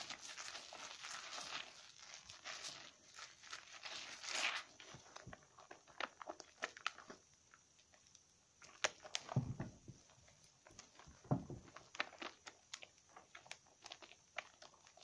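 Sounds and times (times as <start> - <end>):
foam crackling and popping: 0.0 - 15.0
wet squishing of soap and sponge: 0.0 - 15.0.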